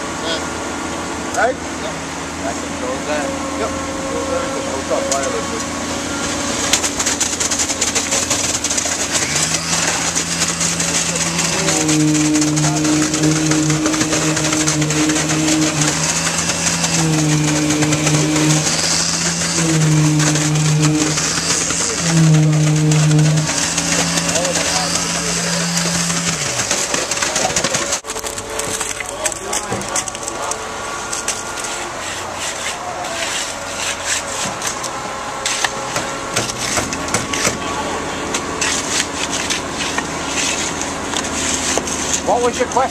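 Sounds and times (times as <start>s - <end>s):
construction machinery running: 0.0s - 42.9s
diesel engine hum: 0.0s - 42.9s.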